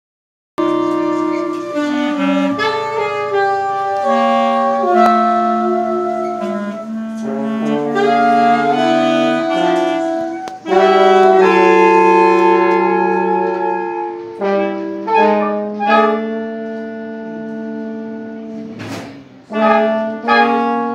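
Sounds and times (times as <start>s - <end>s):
saxophones holding long notes: 0.6s - 18.8s, 19.4s - 20.9s.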